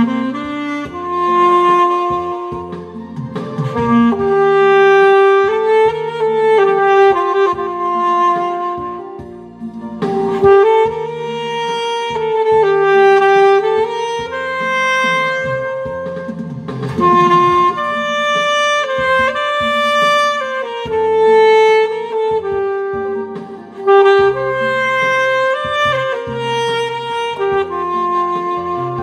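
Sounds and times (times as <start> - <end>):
backing track: 0.0 - 29.0
saxophone slow melody: 0.0 - 29.0.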